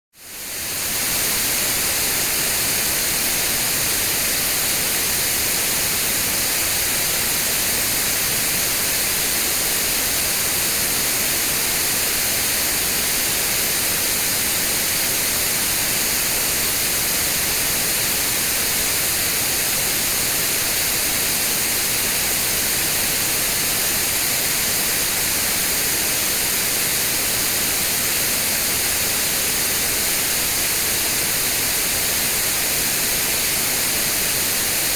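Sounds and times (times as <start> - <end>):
white noise hiss: 0.2 - 34.9.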